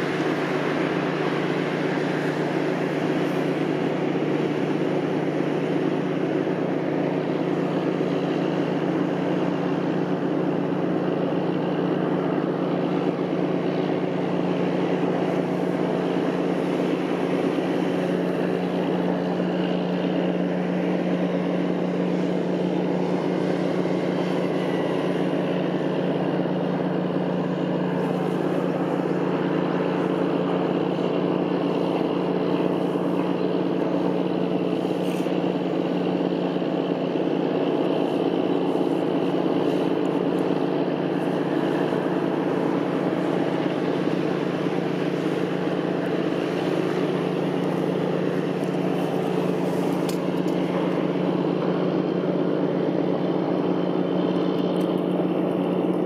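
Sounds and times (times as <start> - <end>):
ship diesel engine droning: 0.0 - 56.0.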